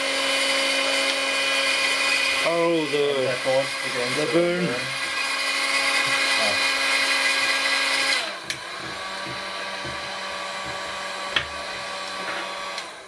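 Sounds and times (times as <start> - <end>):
heat gun fan whine: 0.0 - 13.0.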